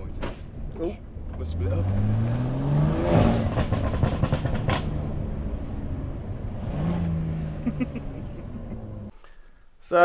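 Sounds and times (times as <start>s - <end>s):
exhaust popping and crackling: 0.0s - 9.1s
car engine running: 0.5s - 9.1s.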